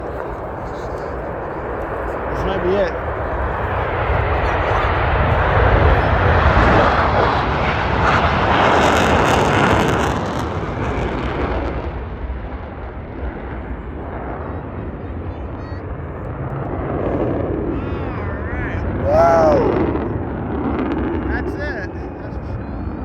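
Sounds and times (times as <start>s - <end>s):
fighter jet passing by: 0.0s - 23.0s.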